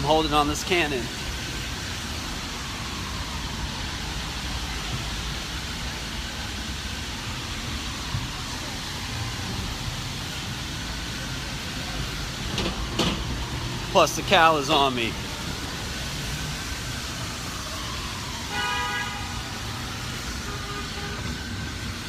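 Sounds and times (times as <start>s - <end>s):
road traffic rumbling: 0.0s - 22.0s.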